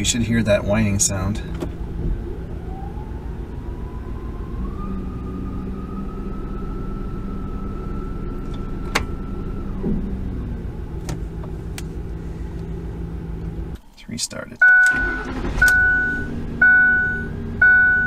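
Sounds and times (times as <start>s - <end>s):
transmission whine: 1.5s - 18.0s.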